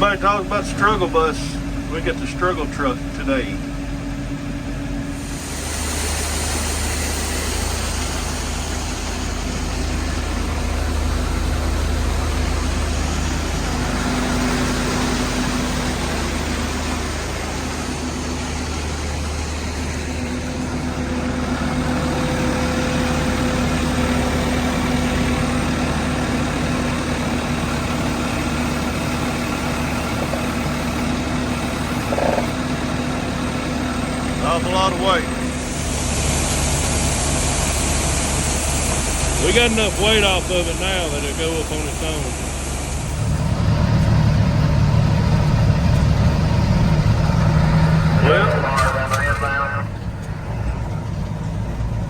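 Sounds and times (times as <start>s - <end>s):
heavy engines humming: 0.0s - 52.0s.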